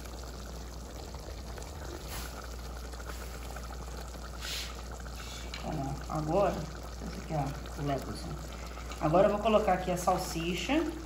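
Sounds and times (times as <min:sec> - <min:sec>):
sauce simmering and bubbling: 0:00.0 - 0:11.0.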